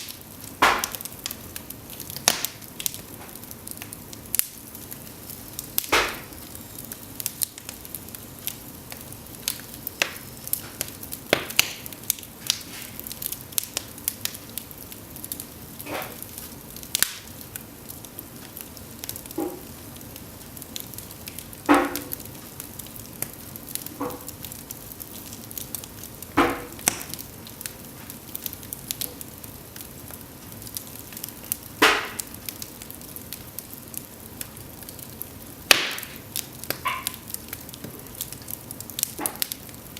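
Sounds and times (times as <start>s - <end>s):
logs burning with crackles: 0.0s - 39.9s
loud fire pops: 0.0s - 39.9s.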